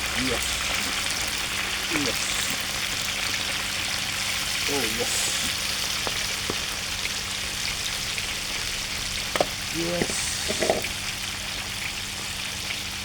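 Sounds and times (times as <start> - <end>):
fish frying in hot oil: 0.0 - 13.0.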